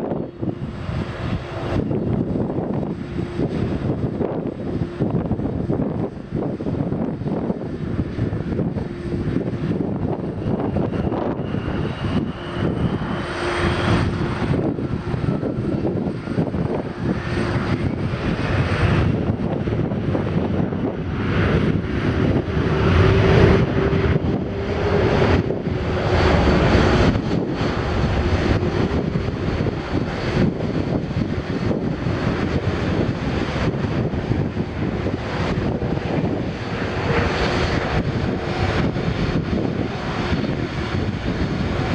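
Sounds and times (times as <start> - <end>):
jet engines humming: 0.0 - 41.9
wind buffeting microphone: 0.0 - 41.9.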